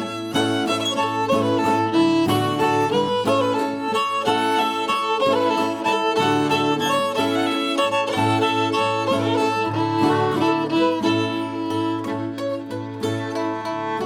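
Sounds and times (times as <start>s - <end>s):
fiddle playing tune: 0.0s - 14.0s
string band playing: 0.0s - 14.0s.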